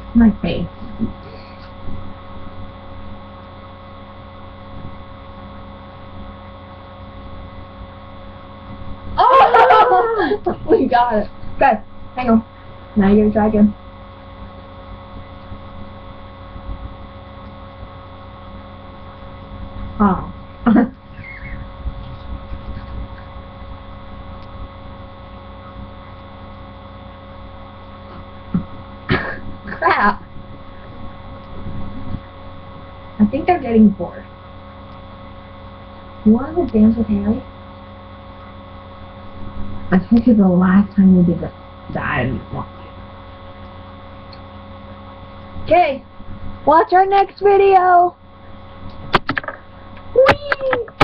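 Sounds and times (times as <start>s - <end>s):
electrical hum: 0.0s - 51.0s.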